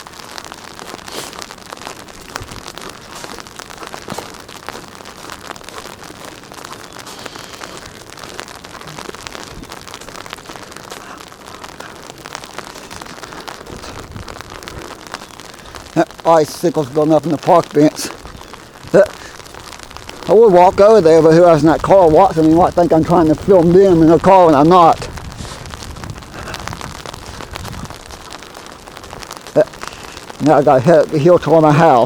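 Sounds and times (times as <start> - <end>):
sleet pattering on ice: 0.0 - 32.0.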